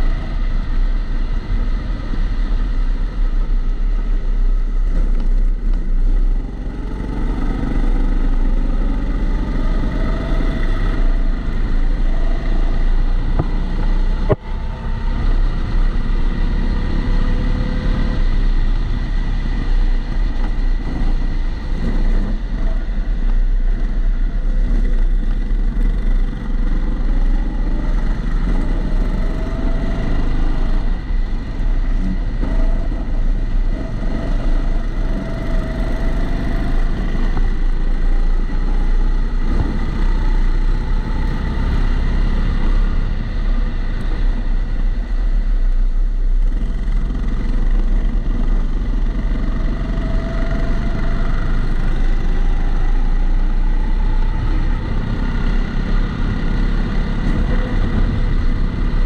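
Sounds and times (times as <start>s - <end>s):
heavy rumble: 0.0s - 59.0s
muffled kart engine: 0.0s - 59.0s.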